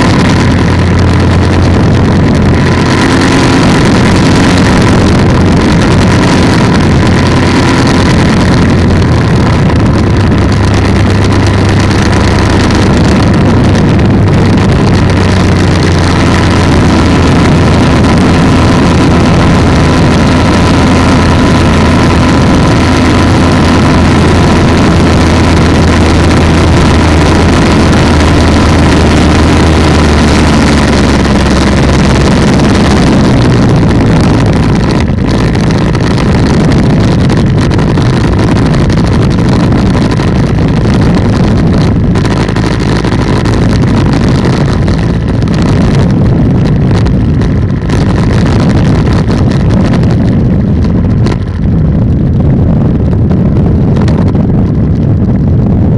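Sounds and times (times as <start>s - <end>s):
two-stroke engine running: 0.0s - 55.9s.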